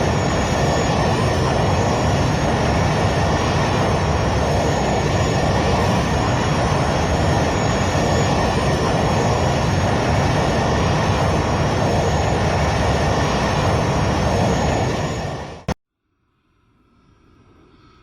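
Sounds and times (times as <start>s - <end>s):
aircraft engine noise: 0.0s - 15.8s
faint wavering high whine: 0.0s - 18.0s.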